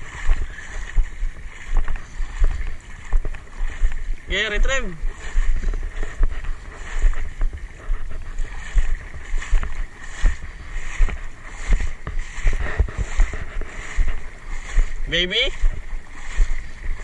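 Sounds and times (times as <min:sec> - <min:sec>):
seawater sloshing around legs: 0:00.0 - 0:17.0
wind rumble on microphone: 0:00.0 - 0:17.0.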